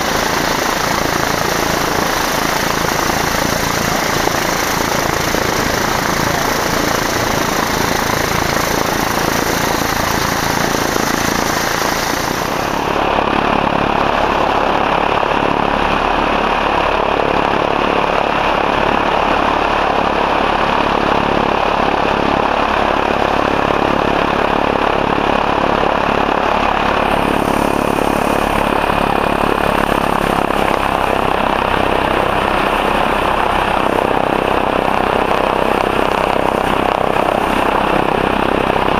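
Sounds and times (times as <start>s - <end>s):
propeller plane engines running: 0.0s - 38.9s.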